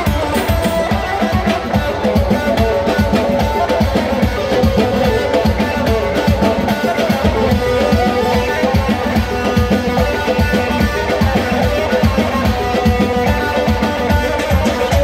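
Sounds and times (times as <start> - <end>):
fast drum rhythm: 0.0 - 15.0
guitar melody: 0.0 - 15.0.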